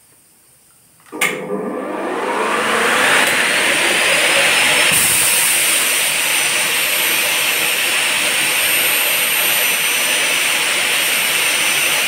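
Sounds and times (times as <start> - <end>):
circular saw blade whining: 1.4 - 12.0.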